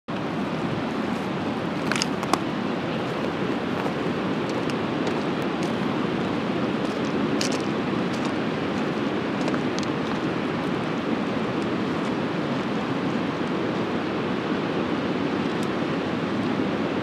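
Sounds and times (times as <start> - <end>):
river rushing over stones: 0.1 - 17.0.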